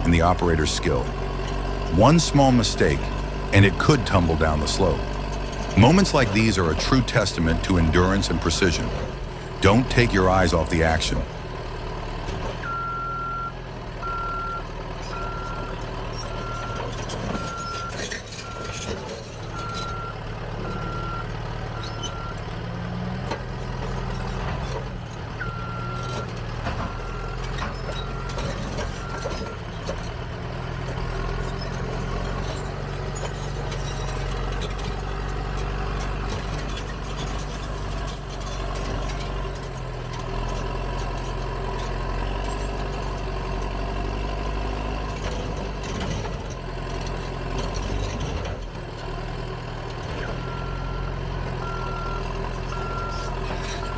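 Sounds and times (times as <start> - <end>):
heavy diesel engine working: 0.0 - 53.9.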